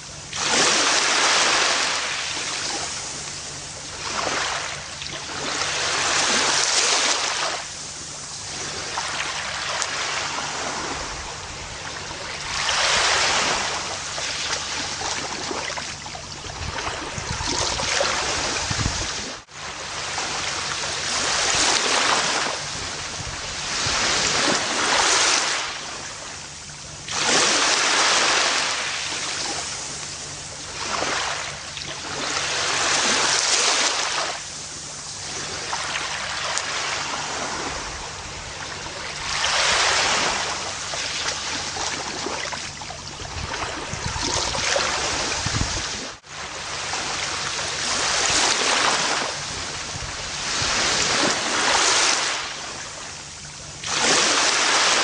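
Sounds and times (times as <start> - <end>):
ocean waves washing on beach: 0.0 - 55.0.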